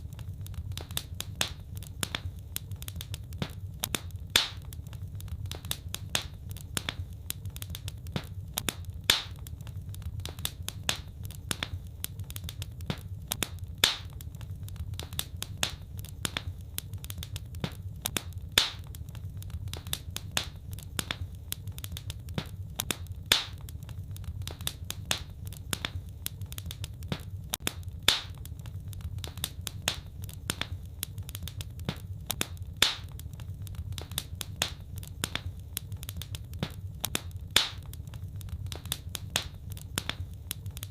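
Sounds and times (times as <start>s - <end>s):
loud fire pops: 0.0s - 40.9s
steady low rumble: 0.0s - 40.9s
wood fire crackling: 0.0s - 40.9s.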